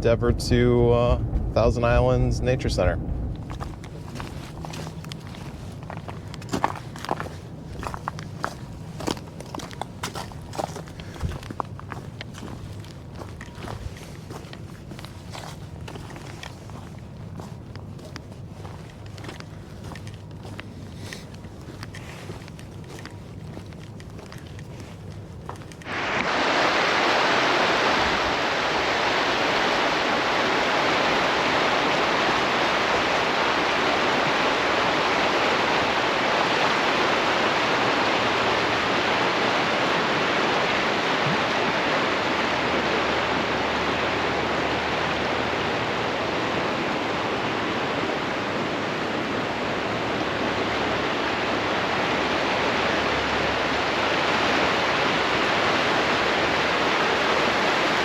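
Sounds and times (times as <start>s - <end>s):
water rushing: 2.8s - 58.0s.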